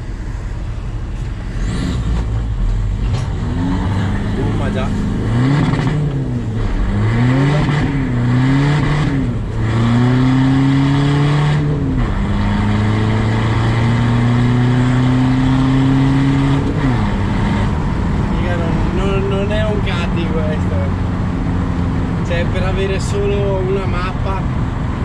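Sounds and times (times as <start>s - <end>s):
van engine accelerating: 0.0s - 25.0s.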